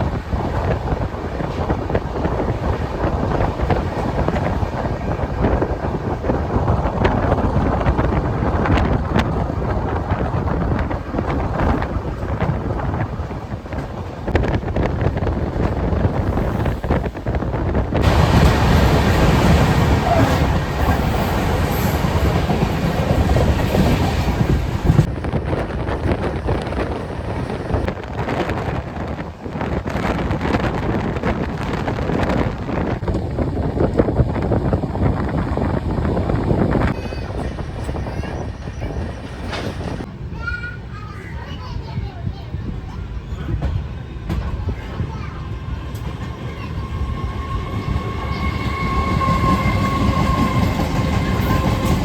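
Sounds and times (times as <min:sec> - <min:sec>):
train coach rumbling: 0:00.0 - 0:52.0
wind buffeting microphone: 0:00.0 - 0:52.0.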